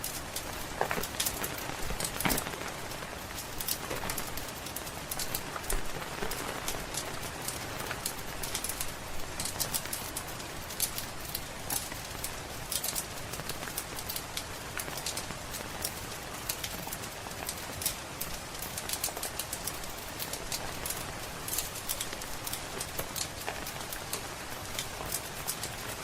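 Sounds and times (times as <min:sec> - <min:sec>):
steady rain: 0:00.0 - 0:26.0
wood fire crackling: 0:00.0 - 0:26.0.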